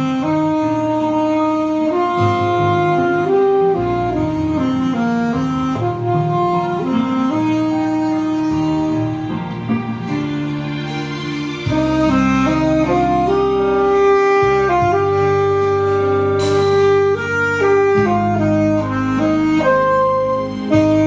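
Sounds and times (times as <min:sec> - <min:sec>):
backing track with bass: 0:00.0 - 0:21.0
saxophone melody: 0:00.0 - 0:21.0.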